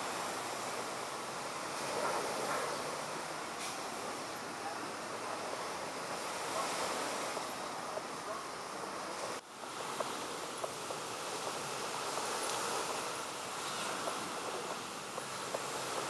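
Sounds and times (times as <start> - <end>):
small waves washing ashore: 0.0 - 16.0
wind: 0.0 - 16.0.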